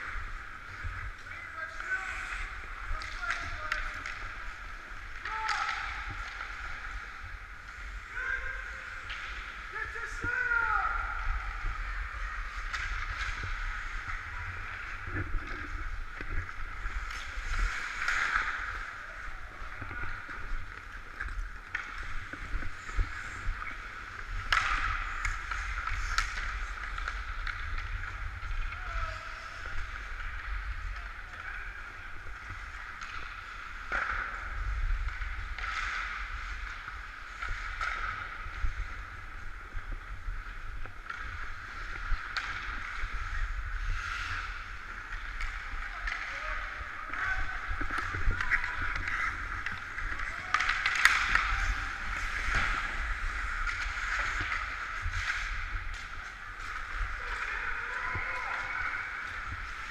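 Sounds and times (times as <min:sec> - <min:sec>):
stick and puck clacks: 0:00.0 - 0:07.9, 0:11.2 - 0:59.9
skates scraping on ice: 0:00.0 - 0:59.9.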